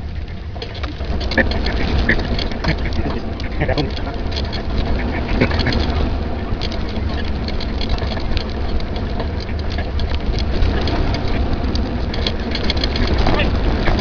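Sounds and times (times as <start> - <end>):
small clicks and rattles: 0.0 - 14.0
wind buffeting microphone: 0.0 - 14.0.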